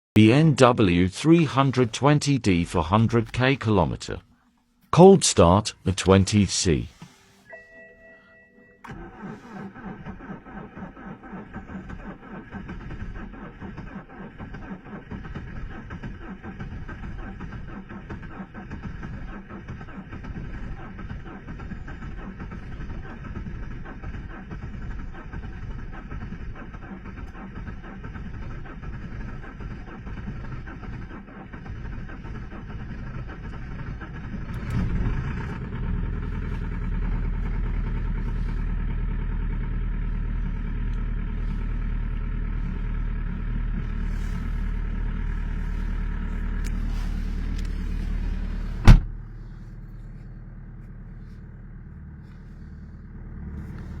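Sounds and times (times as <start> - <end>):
diesel engine running: 0.2 - 7.5, 8.8 - 54.0.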